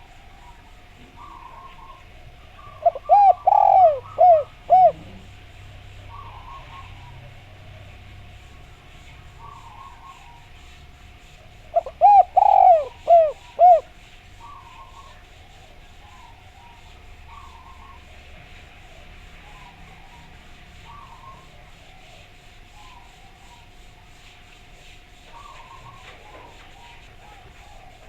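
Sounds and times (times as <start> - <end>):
dove cooing: 0.0 - 28.0
faint steady hum: 0.0 - 28.0
other birds chirping: 0.0 - 28.0.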